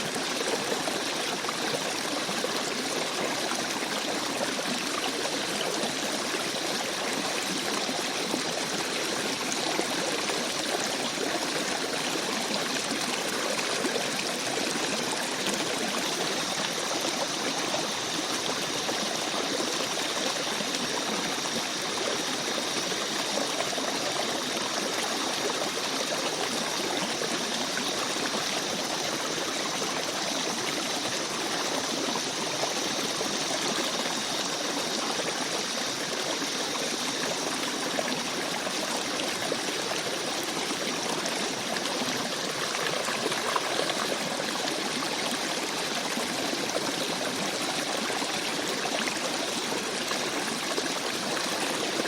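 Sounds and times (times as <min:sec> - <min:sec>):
brook water flowing: 0:00.0 - 0:52.0.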